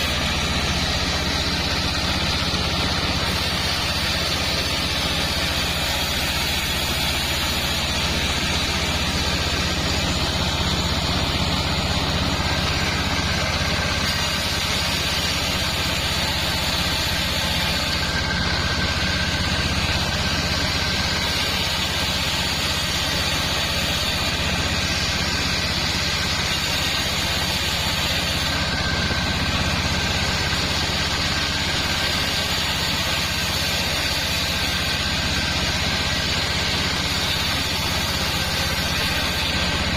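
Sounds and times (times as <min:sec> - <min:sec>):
sawmill engine low drone: 0:00.0 - 0:39.9.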